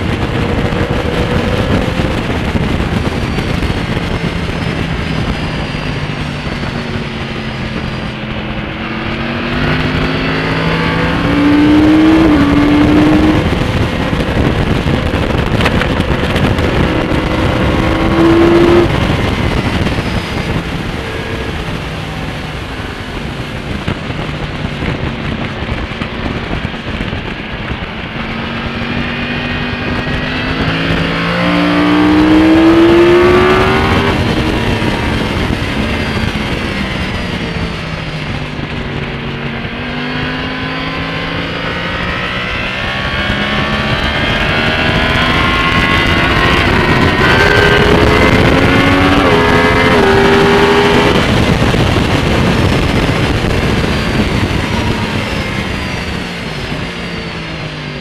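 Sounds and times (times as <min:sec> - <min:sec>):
motorcycle engine at speed: 0:00.0 - 0:58.0
wind rushing past: 0:00.0 - 0:58.0.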